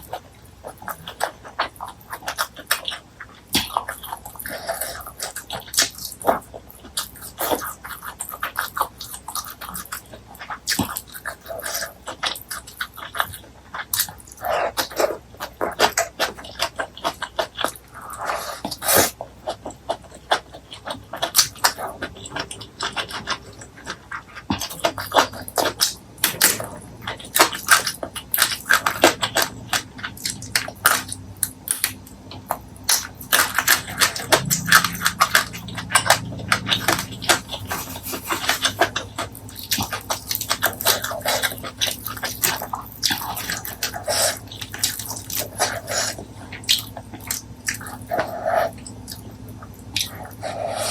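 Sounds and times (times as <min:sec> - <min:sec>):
chewing and wet mouth sounds: 0:00.0 - 0:50.9.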